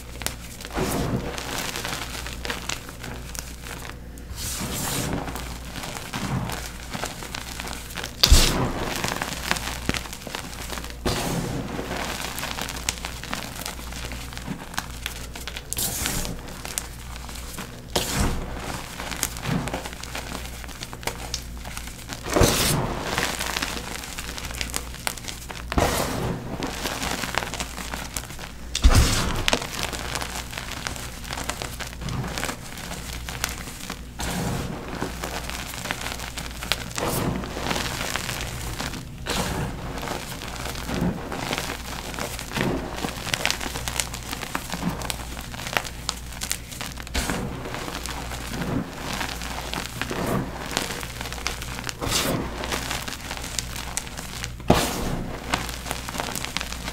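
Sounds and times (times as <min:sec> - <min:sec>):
chalk crushing and crumbling: 0:00.0 - 0:56.9.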